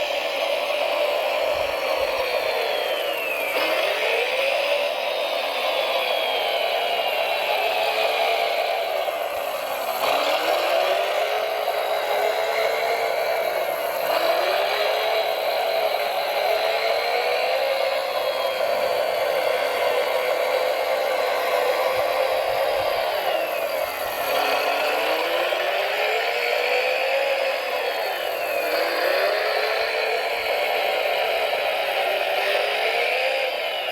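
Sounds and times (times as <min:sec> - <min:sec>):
toy motor whirring: 0:00.0 - 0:33.9.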